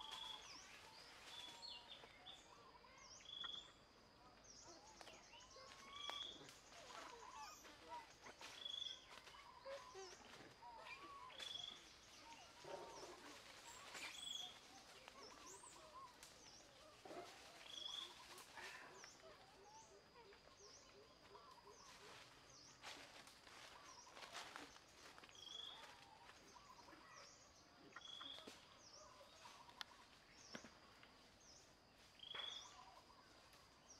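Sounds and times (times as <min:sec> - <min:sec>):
soft bird chirps: 0:00.0 - 0:33.9.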